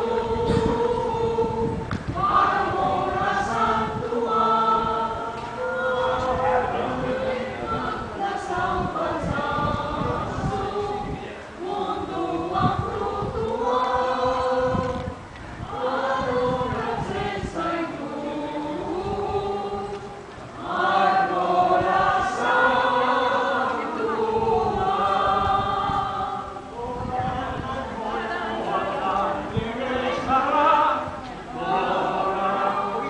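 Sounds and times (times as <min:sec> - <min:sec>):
group singing in chorus: 0:00.0 - 0:33.0.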